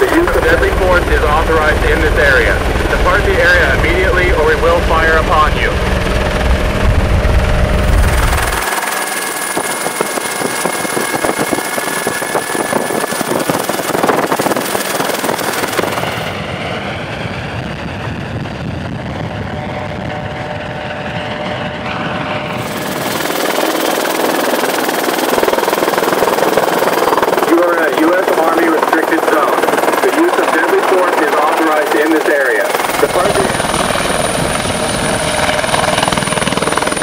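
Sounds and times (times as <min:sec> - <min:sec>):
helicopter rotor and engine: 0:00.0 - 0:37.0.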